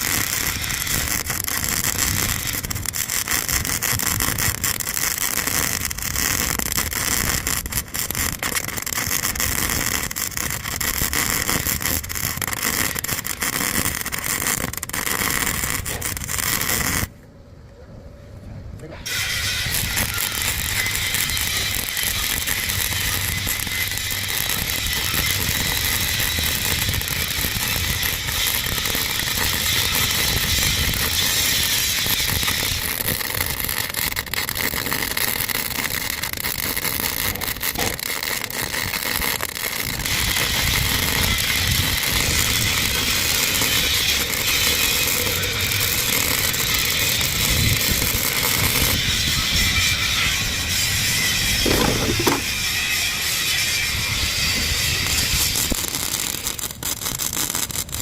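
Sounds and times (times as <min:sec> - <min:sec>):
arc welding crackle: 0:00.0 - 0:17.2, 0:19.0 - 0:58.0.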